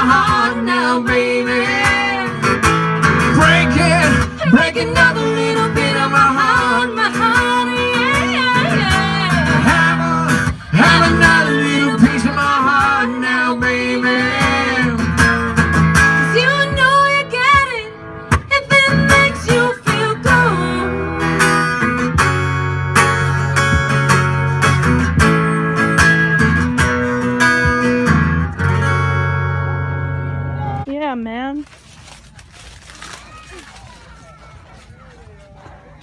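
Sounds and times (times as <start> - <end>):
guitar strumming: 0.0 - 30.8.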